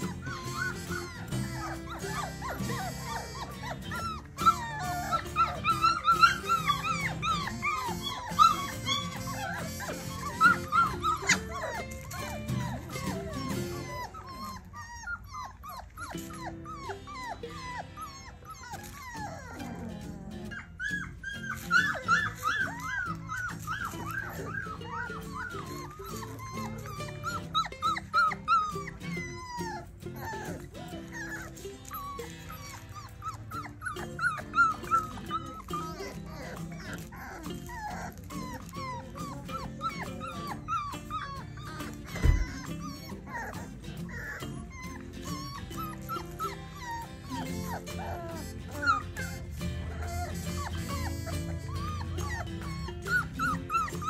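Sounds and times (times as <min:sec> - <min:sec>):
puppies whining and yipping: 0:00.0 - 0:54.0.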